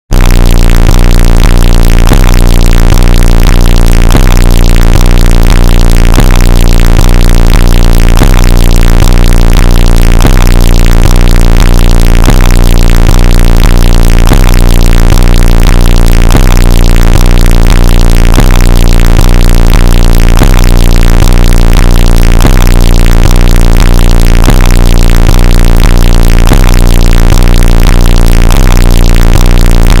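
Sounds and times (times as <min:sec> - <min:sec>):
distorted electronic music: 0:00.1 - 0:30.0.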